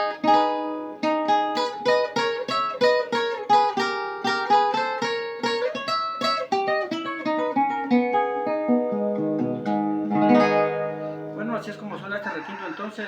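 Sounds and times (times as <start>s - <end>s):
plucked guitar melody: 0.0s - 12.1s.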